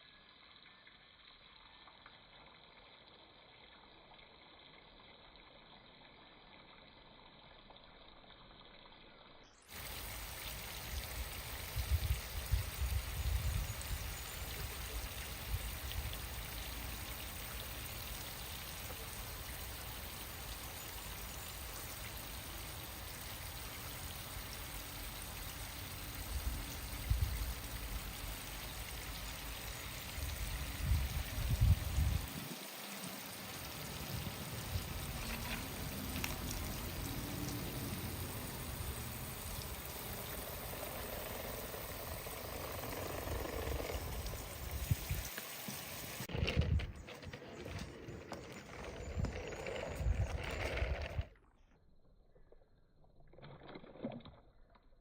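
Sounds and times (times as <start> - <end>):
water pouring and running: 1.6 - 51.4, 53.2 - 55.0.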